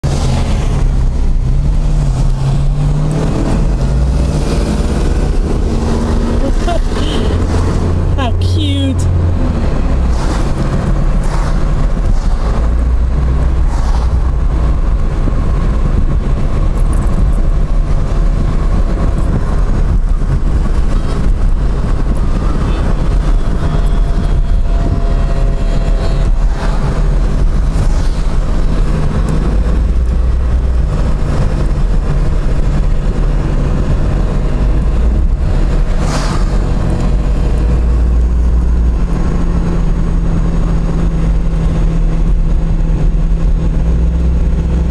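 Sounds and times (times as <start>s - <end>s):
road noise: 0.0s - 44.9s
vehicle engine rumble: 0.0s - 44.9s.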